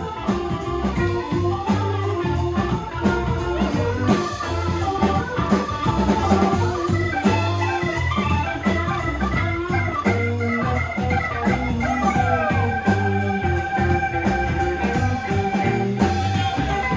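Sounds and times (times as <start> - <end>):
bass guitar: 0.0 - 16.9
drum kit steady beat: 0.0 - 16.9
organ-like keyboard chords: 0.0 - 16.9.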